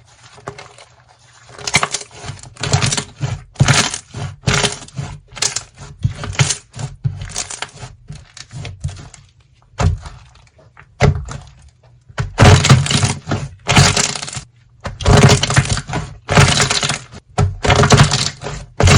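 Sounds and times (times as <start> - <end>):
slime crackling and crunching: 0.0 - 18.9.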